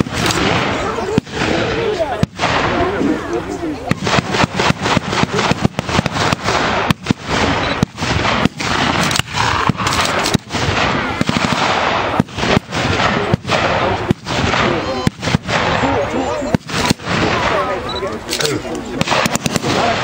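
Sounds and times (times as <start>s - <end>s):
rapid blank gunfire: 0.0s - 3.0s, 3.9s - 20.0s.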